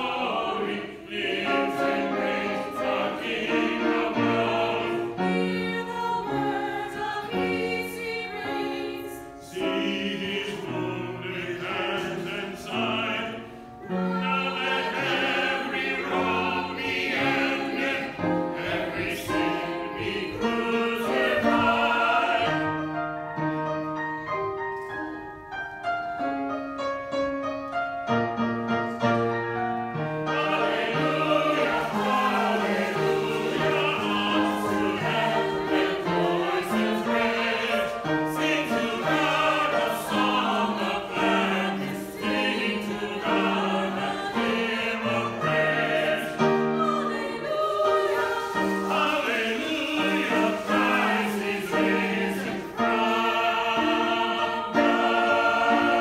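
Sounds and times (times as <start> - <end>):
church choir singing: 0.0 - 26.3, 28.3 - 56.0
piano accompaniment: 0.0 - 56.0.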